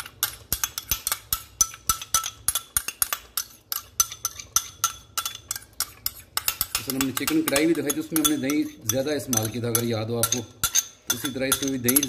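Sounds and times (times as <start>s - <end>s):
spoon clinking against glass bowl: 0.0s - 12.0s.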